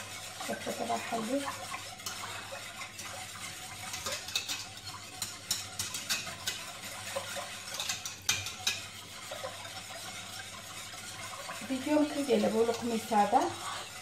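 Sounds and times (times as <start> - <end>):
wire whisk scraping metal pot: 0.0 - 14.0.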